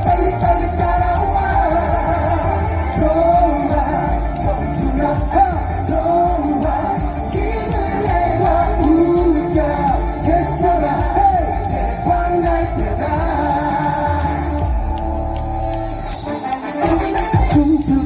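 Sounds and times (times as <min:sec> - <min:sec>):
person singing: 0:00.0 - 0:14.9, 0:16.3 - 0:18.0
live band playing pop song: 0:00.0 - 0:18.0.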